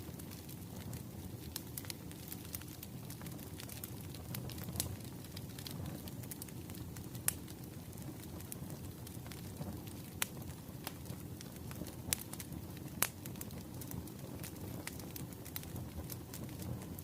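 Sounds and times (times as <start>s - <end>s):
fire low rumble: 0.0s - 17.0s
firewood crackling and popping: 0.0s - 17.0s.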